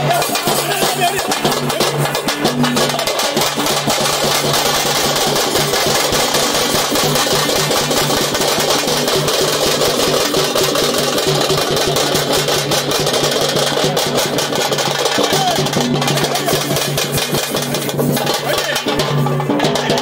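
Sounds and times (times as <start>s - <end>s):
fast drum roll: 0.0s - 20.0s.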